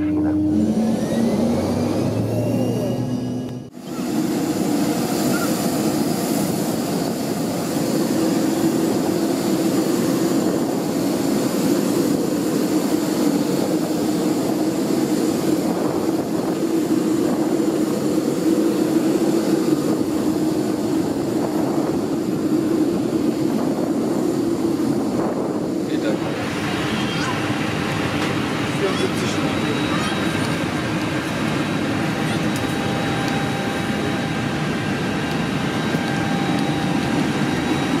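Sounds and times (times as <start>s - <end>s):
jet aircraft drone: 0.0s - 38.0s.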